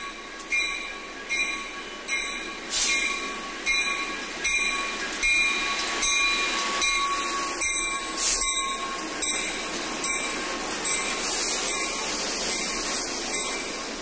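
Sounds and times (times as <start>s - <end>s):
freight train passing: 0.0s - 14.0s.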